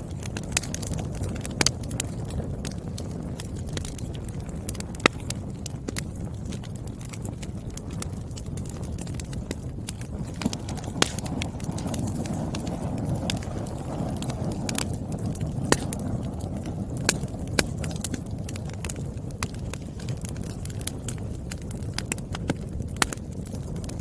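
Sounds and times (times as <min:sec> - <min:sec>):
flames rushing: 0:00.0 - 0:24.0
logs crackling and popping: 0:00.0 - 0:24.0.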